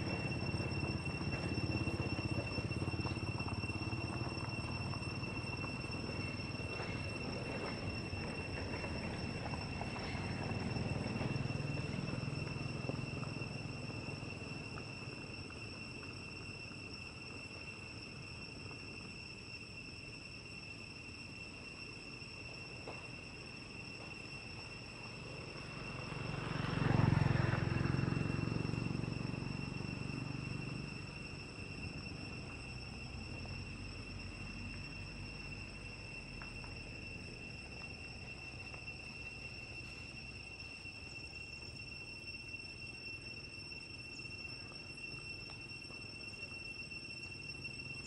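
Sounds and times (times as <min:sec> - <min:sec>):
insects singing: 0:00.0 - 0:48.0.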